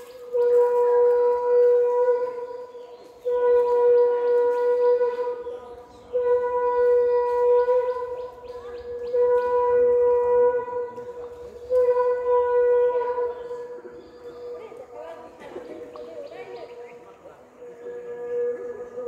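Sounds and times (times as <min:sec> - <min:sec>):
horn-like wind instrument notes: 0:00.0 - 0:15.4, 0:17.7 - 0:19.0.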